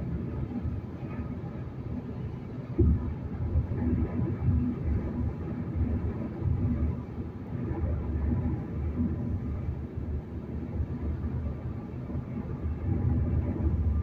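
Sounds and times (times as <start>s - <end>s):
car road noise rumble: 0.0s - 14.0s.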